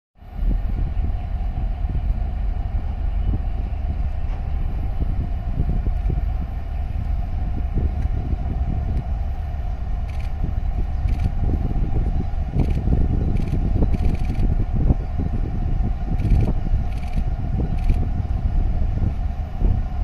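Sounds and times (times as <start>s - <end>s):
wind buffeting microphone: 0.2s - 20.0s.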